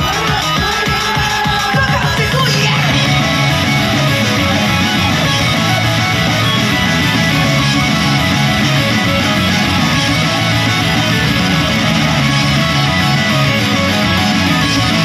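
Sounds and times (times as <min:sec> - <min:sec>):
guitar-driven rock music: 0:00.0 - 0:15.0.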